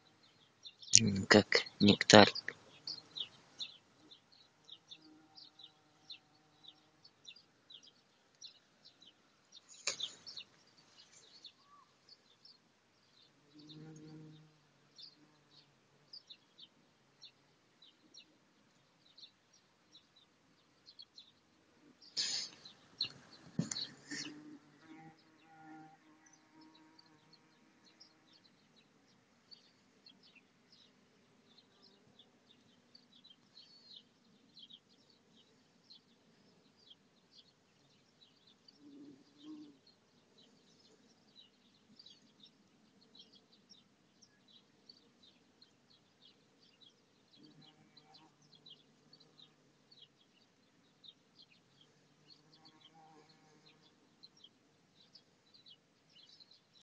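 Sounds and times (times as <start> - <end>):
faint birdsong: 0.0 - 56.8.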